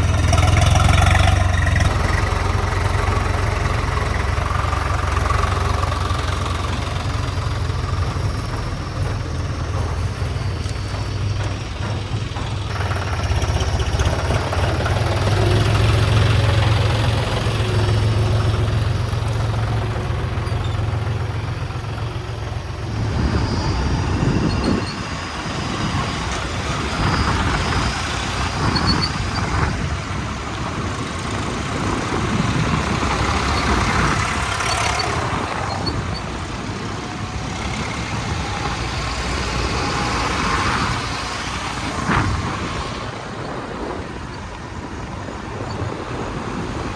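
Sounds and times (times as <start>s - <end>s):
knocks and clatters of machines: 0.0s - 43.3s
diesel engines running: 0.0s - 46.9s.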